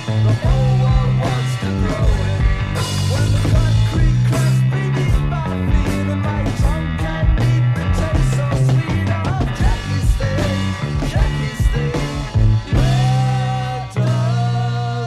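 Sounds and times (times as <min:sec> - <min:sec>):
bass line: 0:00.0 - 0:15.0
bending electric guitar lines: 0:00.0 - 0:15.0
psychedelic rock music: 0:00.0 - 0:15.0.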